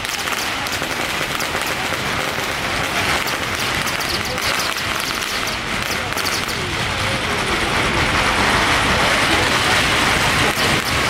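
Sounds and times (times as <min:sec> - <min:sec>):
crowd of voices: 0:00.0 - 0:11.0
firecrackers crackling: 0:00.0 - 0:11.0.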